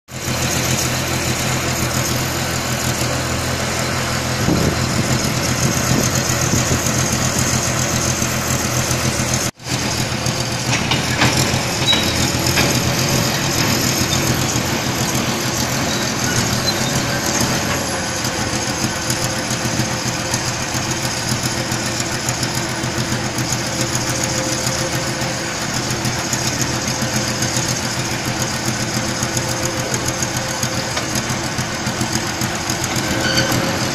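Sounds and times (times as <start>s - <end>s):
conveyor engine drone with clatter: 0.1s - 33.9s.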